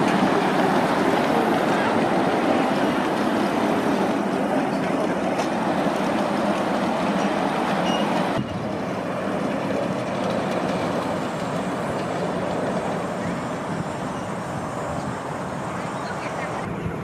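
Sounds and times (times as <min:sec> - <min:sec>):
miniature train wheels rumbling: 0:00.0 - 0:17.0.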